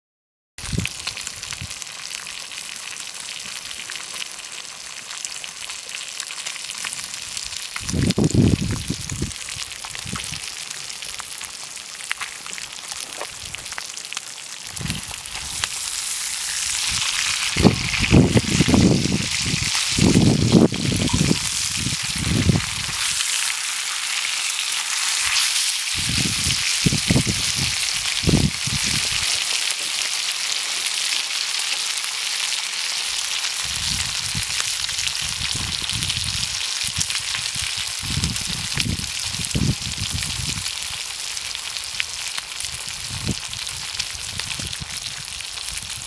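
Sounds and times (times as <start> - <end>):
meat sizzling in a pan: 0.6 - 46.0.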